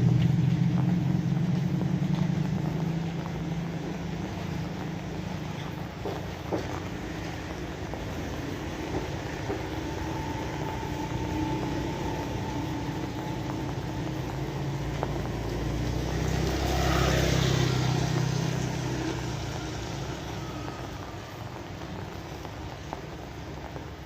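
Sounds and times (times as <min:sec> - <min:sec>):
vehicle passing by: 0:00.0 - 0:21.6
steady rain: 0:00.0 - 0:24.0.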